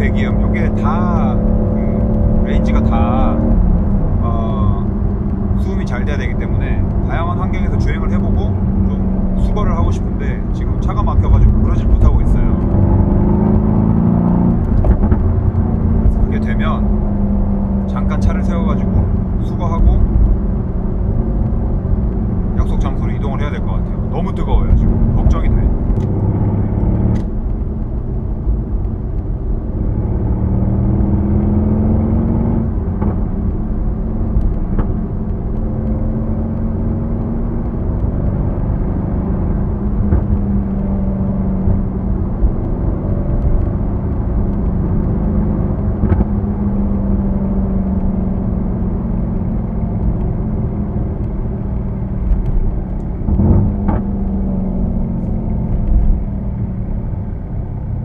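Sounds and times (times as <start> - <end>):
car exhaust low drone: 0.0 - 58.0.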